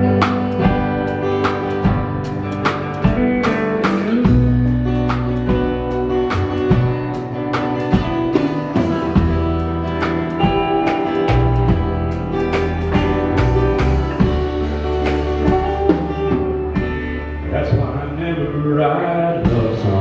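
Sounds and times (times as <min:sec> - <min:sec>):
drum kit beat: 0:00.0 - 0:18.3, 0:19.2 - 0:20.0
bass guitar: 0:00.0 - 0:20.0
guitar: 0:00.0 - 0:20.0.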